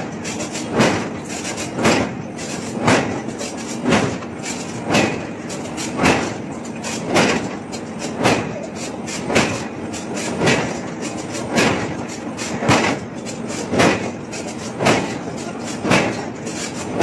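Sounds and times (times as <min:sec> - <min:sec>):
forging blows on hot steel: 0:00.0 - 0:17.0
shop machinery noise: 0:00.0 - 0:17.0.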